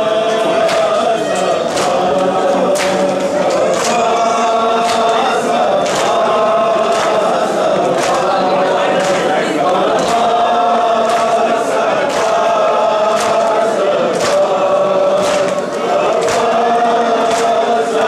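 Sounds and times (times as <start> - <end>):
men chanting in unison: 0.0 - 18.0
rhythmic chest-beating slaps: 0.0 - 18.0.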